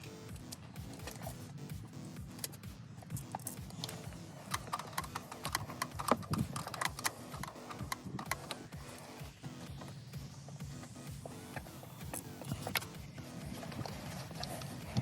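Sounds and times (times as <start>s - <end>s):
background music: 0.0s - 15.0s
sharp clicks and knocks: 0.0s - 15.0s.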